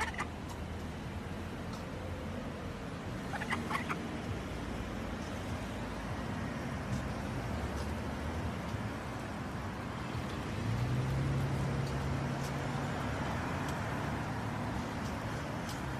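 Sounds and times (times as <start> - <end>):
street traffic noise: 0.0 - 15.9.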